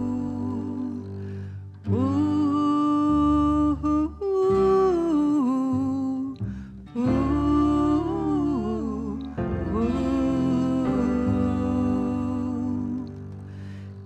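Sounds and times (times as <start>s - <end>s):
person humming melody: 0.0s - 13.5s
low instrumental accompaniment: 0.0s - 14.0s.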